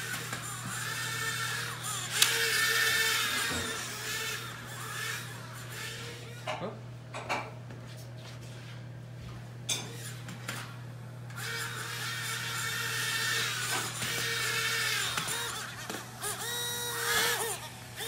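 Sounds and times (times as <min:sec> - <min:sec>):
tiny electric fans whining: 0:00.0 - 0:18.0.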